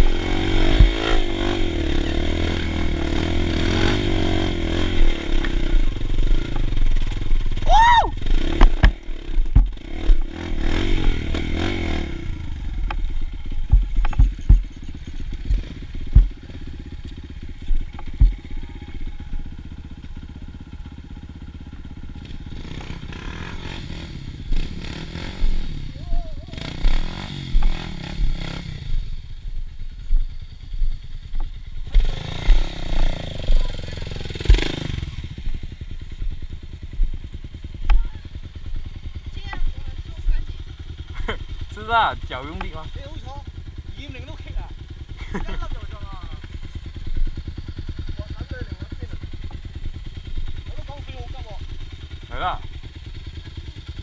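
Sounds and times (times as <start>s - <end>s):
dirt bike engine: 0.0s - 54.0s
second dirt bike revving: 0.0s - 54.0s.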